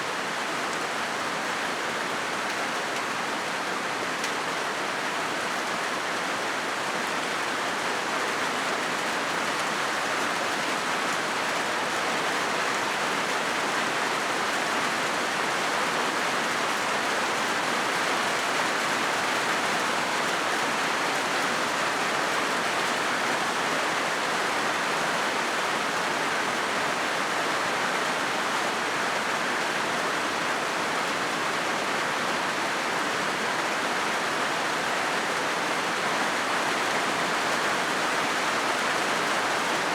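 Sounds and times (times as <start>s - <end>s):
rain drumming on a metal roof: 0.1s - 39.9s.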